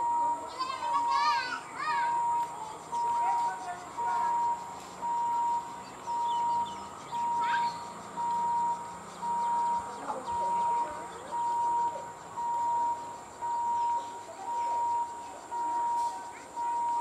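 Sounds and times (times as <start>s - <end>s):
electronic warning beeps: 0.0s - 17.0s
faint background noise: 0.0s - 17.0s.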